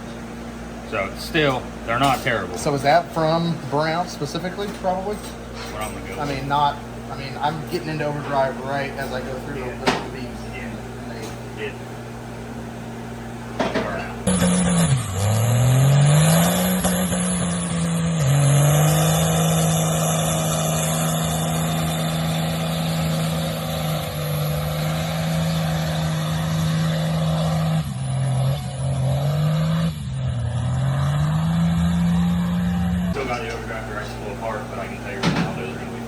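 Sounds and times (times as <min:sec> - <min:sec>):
diesel truck engine revving: 0:00.0 - 0:36.0.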